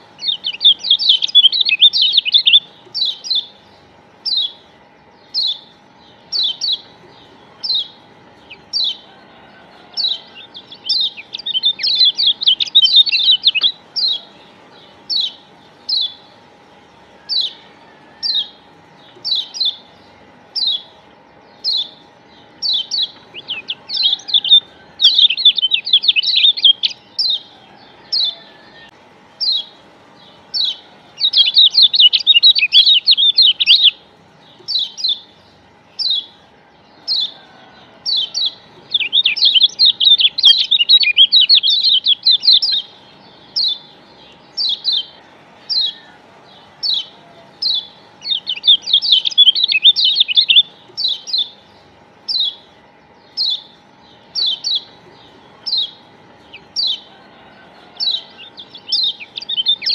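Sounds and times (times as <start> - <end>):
bird chirping and twittering: 0.0 - 59.9
faint steady hum: 0.0 - 59.9.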